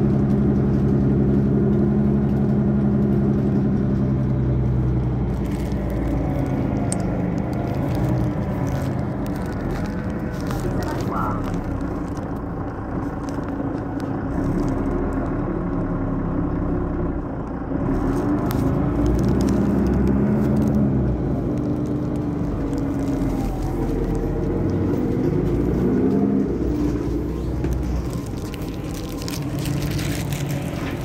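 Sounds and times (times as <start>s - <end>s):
bus diesel engine accelerating: 0.0s - 31.0s.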